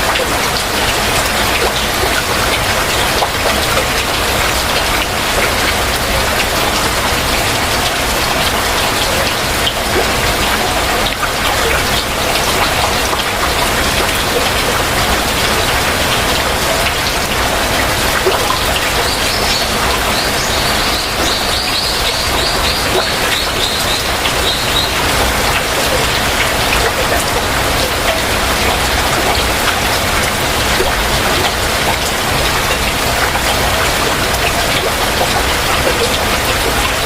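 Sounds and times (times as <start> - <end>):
raindrops striking surfaces: 0.0 - 37.0.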